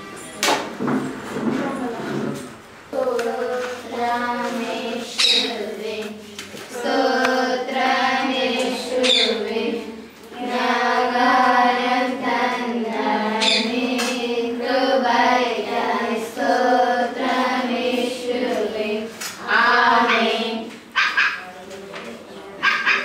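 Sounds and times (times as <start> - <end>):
children singing in unison: 2.1 - 21.0.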